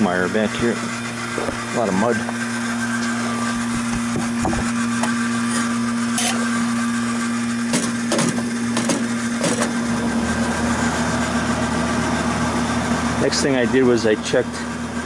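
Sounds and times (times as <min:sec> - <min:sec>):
refrigeration equipment hum: 0:00.0 - 0:15.0.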